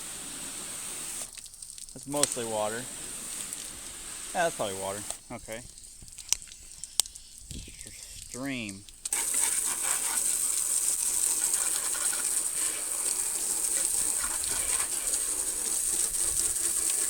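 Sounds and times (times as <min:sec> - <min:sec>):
water sprayer hissing: 0:00.0 - 0:17.0.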